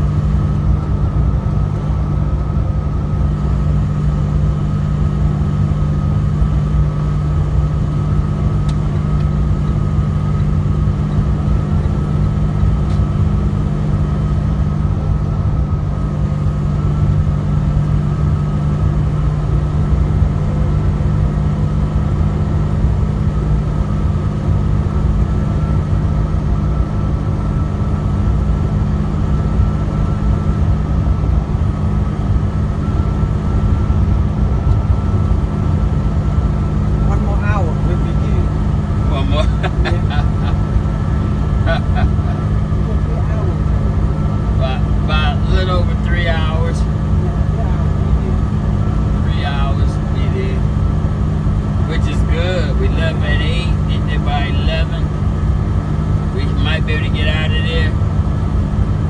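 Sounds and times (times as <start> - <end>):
truck engine and road noise: 0.0 - 59.0.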